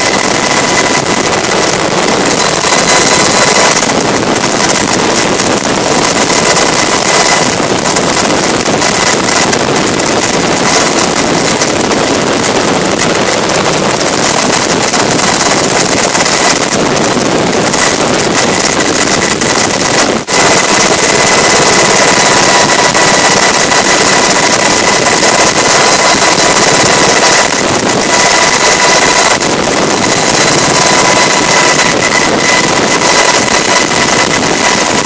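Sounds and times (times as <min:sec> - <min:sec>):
helicopter turbine and rotor rush: 0:00.0 - 0:35.0
thin high whine: 0:00.0 - 0:35.0.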